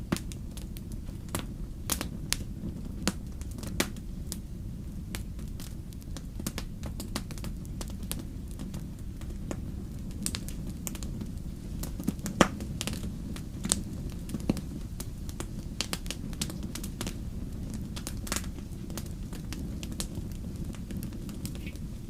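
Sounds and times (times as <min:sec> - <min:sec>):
campfire flames rumbling: 0:00.0 - 0:22.0
logs crackling and popping: 0:00.0 - 0:22.0.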